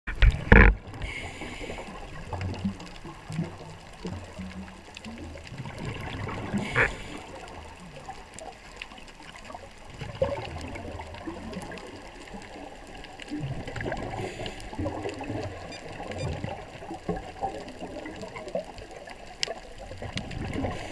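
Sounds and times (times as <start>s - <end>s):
underwater gurgling and bubbling: 0.1s - 20.9s.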